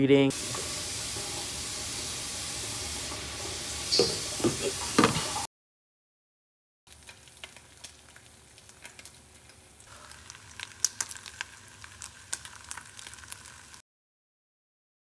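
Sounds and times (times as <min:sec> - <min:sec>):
bacon sizzling in a frying pan: 0:00.3 - 0:05.5, 0:06.9 - 0:13.8.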